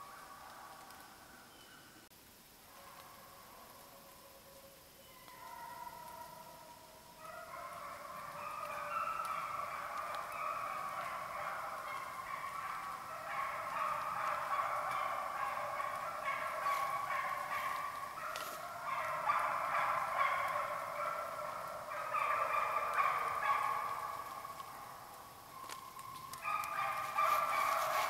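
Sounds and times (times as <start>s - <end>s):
hounds baying: 2.7s - 28.0s.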